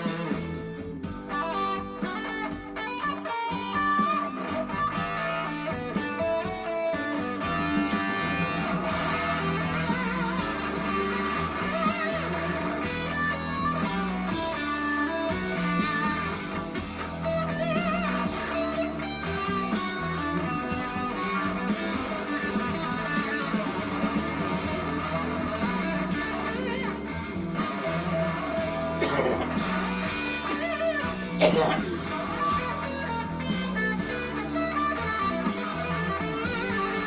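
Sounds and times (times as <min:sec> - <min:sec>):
backing track bass and drums: 0:00.0 - 0:37.0
fuzz electric guitar lead: 0:00.0 - 0:37.0.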